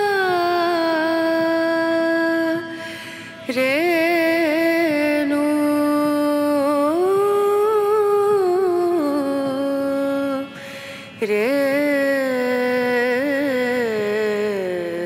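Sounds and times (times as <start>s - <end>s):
person chanting: 0.0s - 15.0s.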